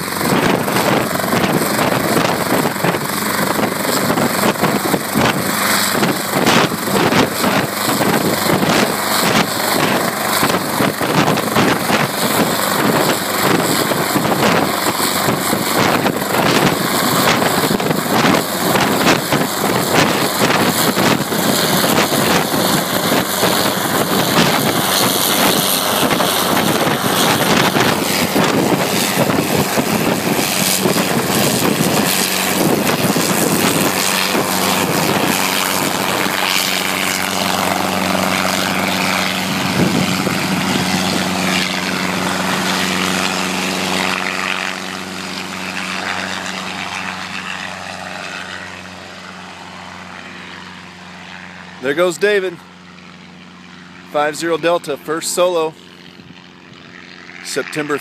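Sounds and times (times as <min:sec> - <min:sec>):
helicopter engine drone: 0:00.0 - 0:58.0
helicopter rotor beating: 0:00.0 - 0:58.0.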